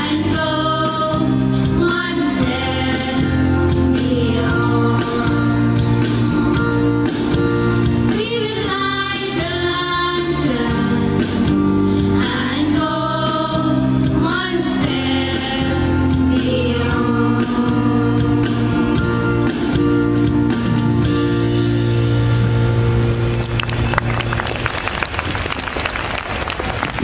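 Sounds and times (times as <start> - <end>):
instrumental accompaniment: 0.0 - 24.8.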